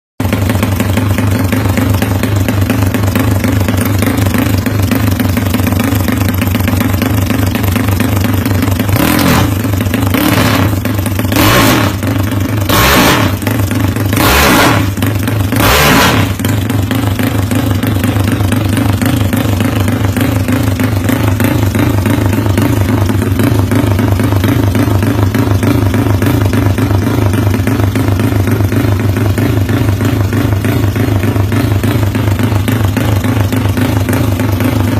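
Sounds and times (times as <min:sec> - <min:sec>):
scooter engine idling choppily: 0:00.2 - 0:34.9.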